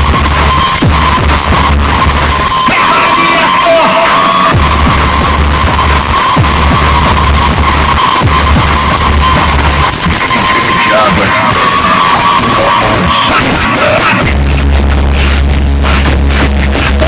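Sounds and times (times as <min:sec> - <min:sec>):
loud bass-heavy music from car speakers: 0:00.0 - 0:17.0.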